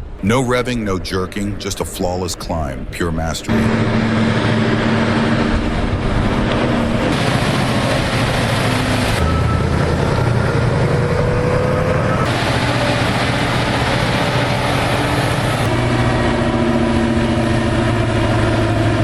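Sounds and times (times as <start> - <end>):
thin steady whine: 0.0 - 19.0
truck diesel engine pulling hard: 0.0 - 19.0.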